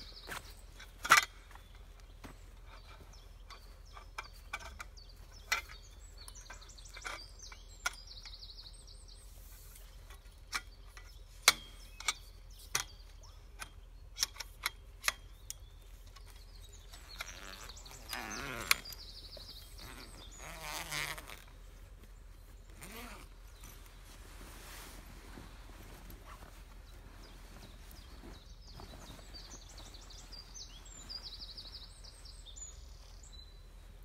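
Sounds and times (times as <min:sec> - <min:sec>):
tent poles clicking and clinking: 0:00.0 - 0:33.2
birds singing in trills: 0:00.0 - 0:34.0
rustle: 0:00.0 - 0:34.0.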